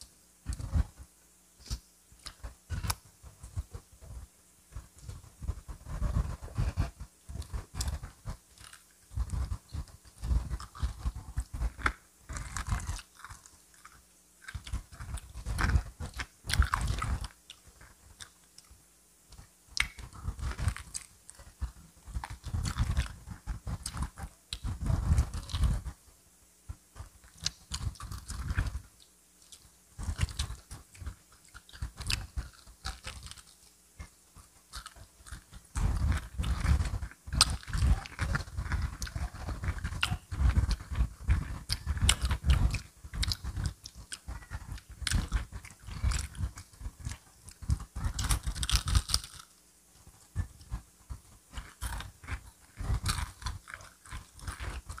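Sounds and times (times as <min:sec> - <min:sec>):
person chewing crispy chicken: 0:05.9 - 0:18.8, 0:19.4 - 0:25.8, 0:27.2 - 0:49.5, 0:50.3 - 0:55.0.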